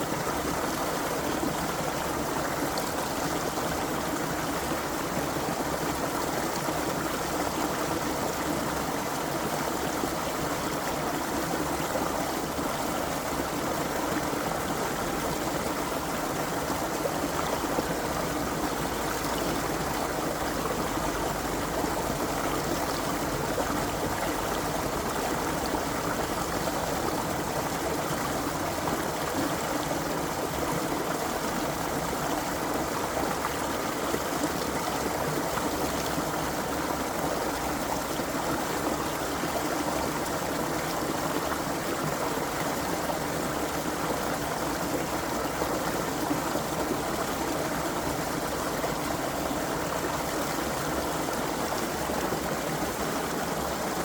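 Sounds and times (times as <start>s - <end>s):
creek water running: 0.0s - 54.0s.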